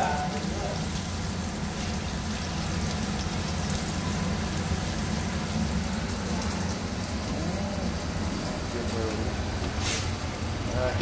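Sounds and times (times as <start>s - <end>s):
deep-frying sizzle with crackles: 0.0s - 11.0s.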